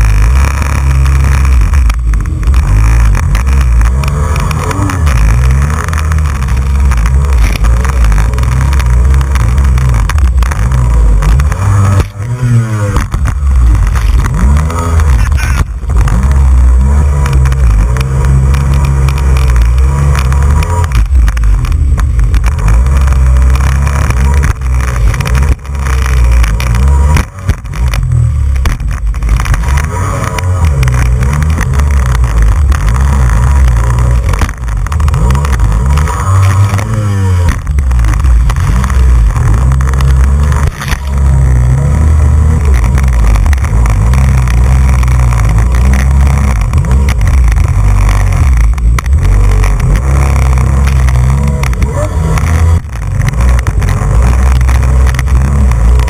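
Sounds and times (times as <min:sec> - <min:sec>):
jet ski engine rumbling: 0:00.0 - 0:56.0.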